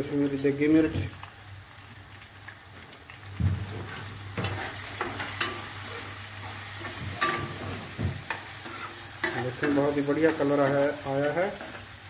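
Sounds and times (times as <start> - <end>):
masala sizzling: 0.0 - 12.0.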